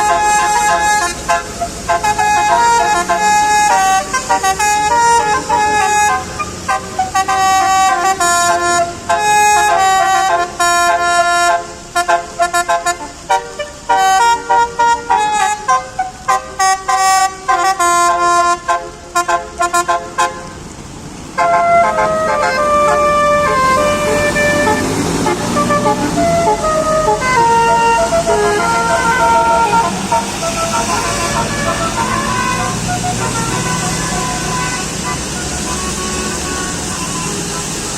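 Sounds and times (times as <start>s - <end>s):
multi-tone air horn melody: 0.0s - 20.6s, 21.3s - 37.9s
bus engine revving: 0.0s - 37.9s.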